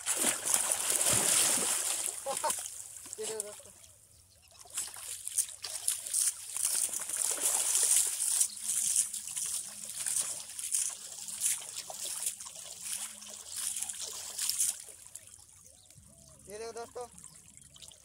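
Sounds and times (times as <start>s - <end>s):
water splashing by hand: 0.0s - 3.8s, 4.6s - 15.4s
water trickling and sloshing: 0.0s - 18.0s.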